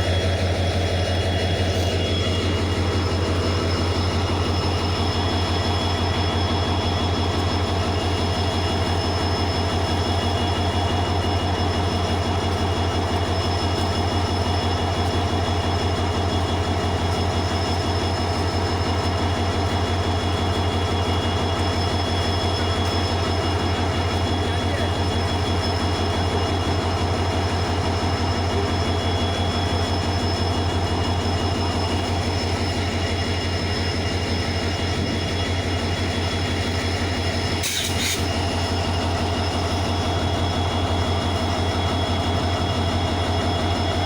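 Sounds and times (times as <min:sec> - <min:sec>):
diesel locomotive engine throbbing: 0:00.0 - 0:44.0
high-pitched whine: 0:00.0 - 0:44.0.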